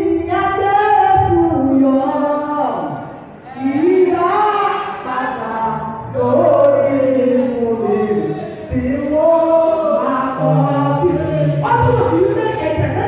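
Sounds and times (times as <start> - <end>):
man singing into microphone: 0.0 - 3.0, 3.6 - 13.0.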